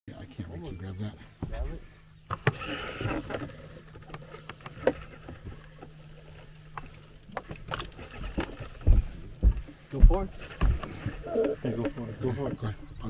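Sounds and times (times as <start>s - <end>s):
boat motor humming: 0.4s - 13.0s.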